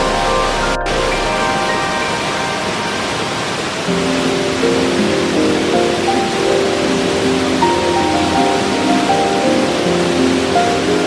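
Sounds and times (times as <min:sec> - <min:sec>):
soft sustained music notes: 0:00.0 - 0:11.0
waterfall rushing: 0:00.0 - 0:11.0.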